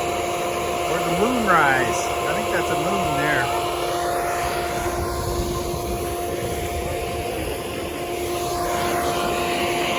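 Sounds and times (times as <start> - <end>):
machine hum: 0.0 - 9.9
rushing noise: 0.0 - 9.9.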